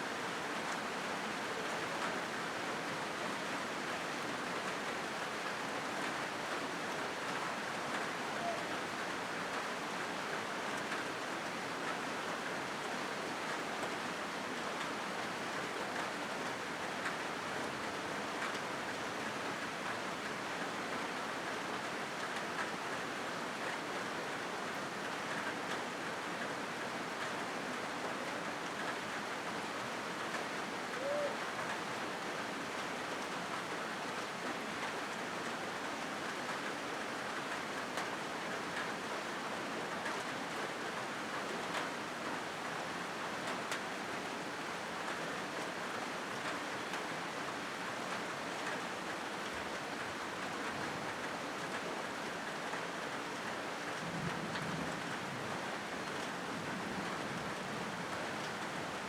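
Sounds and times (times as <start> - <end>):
rain drumming on a metal roof: 0.0 - 59.0.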